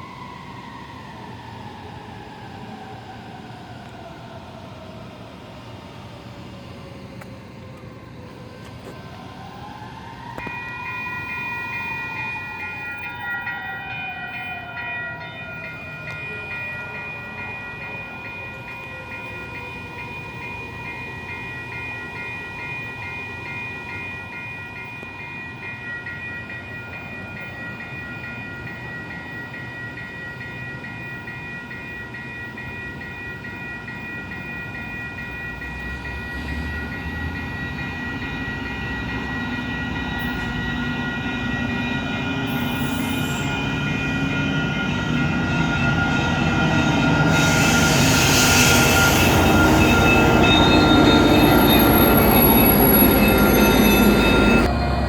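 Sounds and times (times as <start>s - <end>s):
approaching train rumble: 0.0s - 55.0s
high ringing tones: 10.4s - 55.0s.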